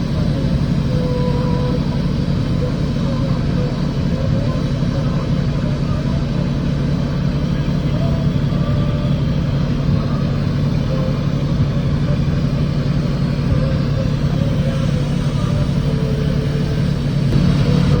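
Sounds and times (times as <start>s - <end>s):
faint voices: 0.0s - 18.0s
low mechanical drone: 0.0s - 18.0s.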